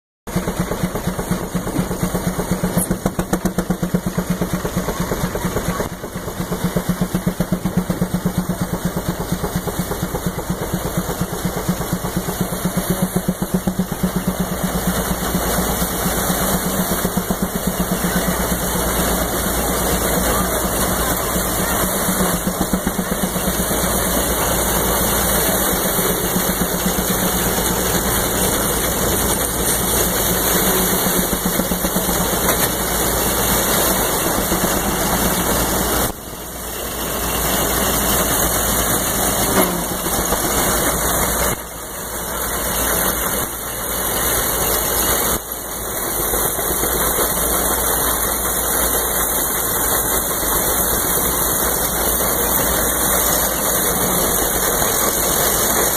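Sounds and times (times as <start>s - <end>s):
threshing machine running: 0.3s - 55.9s.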